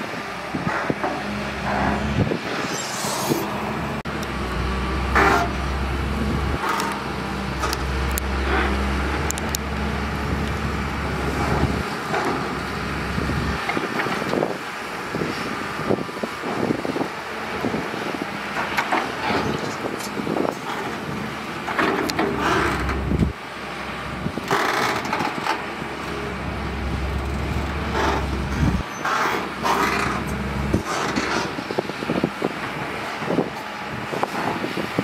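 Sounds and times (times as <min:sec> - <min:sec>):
excavator diesel engine rumbling: 0:00.0 - 0:35.0.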